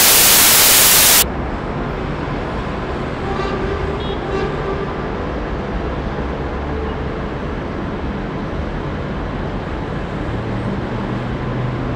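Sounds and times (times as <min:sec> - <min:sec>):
city street traffic: 0:00.0 - 0:11.9.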